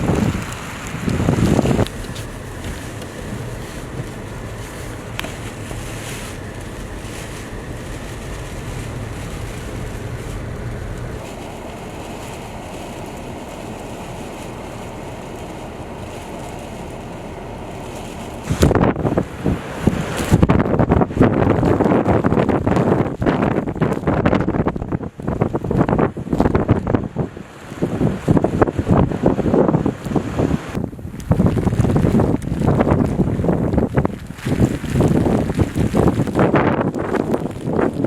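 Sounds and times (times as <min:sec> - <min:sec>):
snowstorm wind blowing: 0:00.0 - 0:38.0
wind buffeting microphone: 0:00.0 - 0:38.0.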